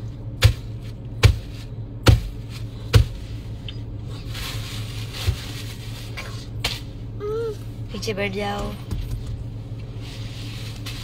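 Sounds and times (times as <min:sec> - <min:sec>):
car cabin hum: 0:00.0 - 0:11.0.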